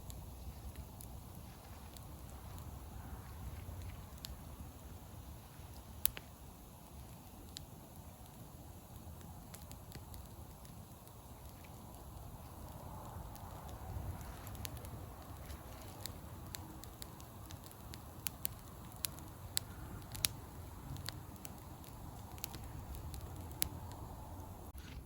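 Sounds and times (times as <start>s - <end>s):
bonfire crackling and popping: 0.0s - 25.0s
low steady rumble: 0.0s - 25.0s.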